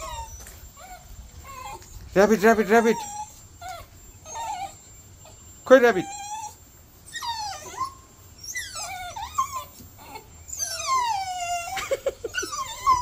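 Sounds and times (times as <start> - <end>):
small dog whining: 0.0 - 13.0.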